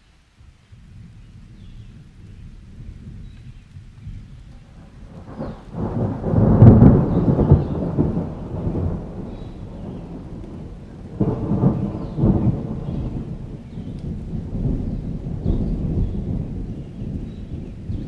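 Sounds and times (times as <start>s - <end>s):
steady rain: 0.0s - 18.0s
thunder rolling: 0.8s - 18.0s.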